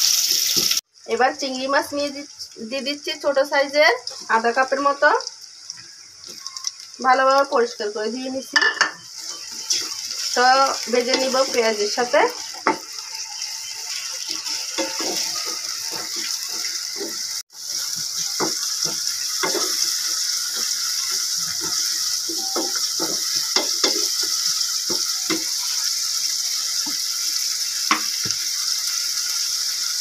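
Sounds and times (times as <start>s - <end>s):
shrimp and onions sizzling in oil: 0.0s - 30.0s.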